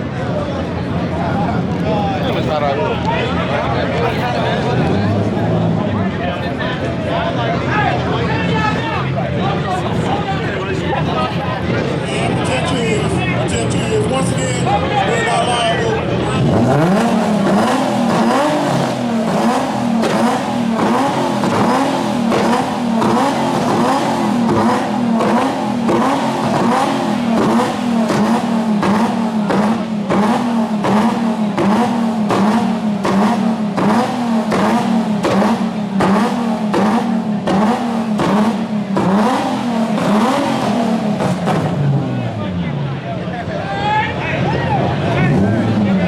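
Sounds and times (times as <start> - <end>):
car engine revving hard: 0.0 - 42.9, 44.4 - 46.0
exhaust cracks: 0.0 - 43.2.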